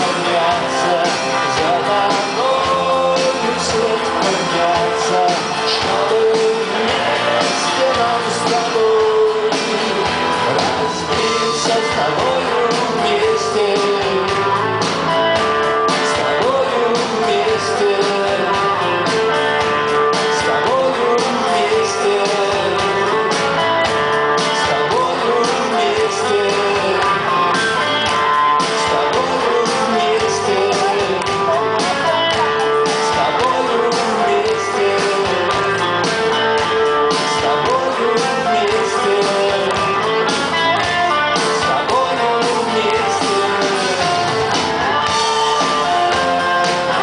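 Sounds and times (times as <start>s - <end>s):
guitar melody: 0.0s - 47.0s
rock band playing live: 0.0s - 47.0s.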